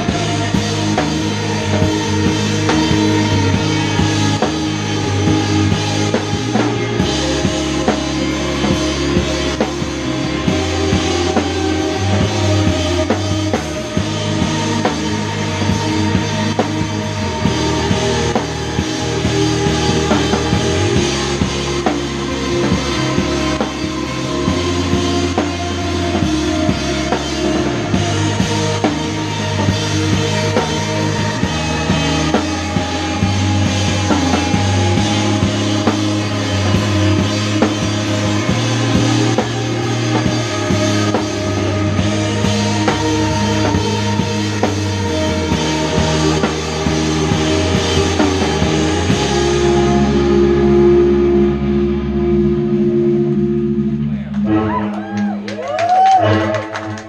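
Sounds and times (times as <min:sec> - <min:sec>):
drum kit: 0:00.0 - 0:57.0
held bass notes: 0:00.0 - 0:57.0
thick guitar: 0:00.0 - 0:57.0.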